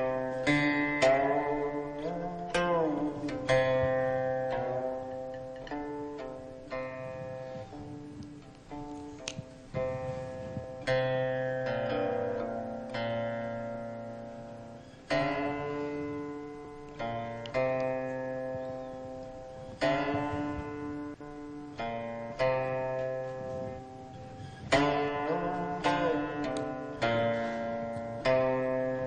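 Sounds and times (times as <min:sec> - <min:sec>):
plucked string instrument music: 0:00.0 - 0:29.0.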